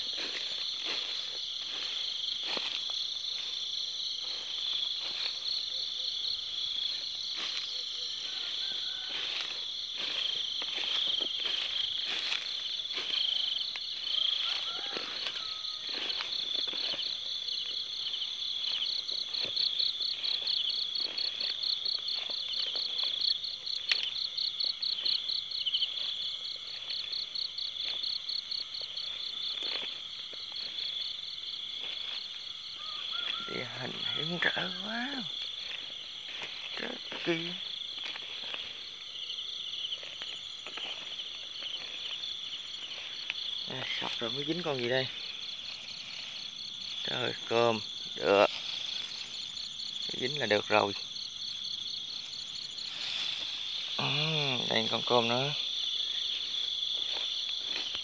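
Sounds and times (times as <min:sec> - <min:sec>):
crickets trilling: 0:00.0 - 0:58.0
footsteps through grass: 0:00.0 - 0:58.0
loud rapid pulsed insect trill: 0:00.0 - 0:58.0.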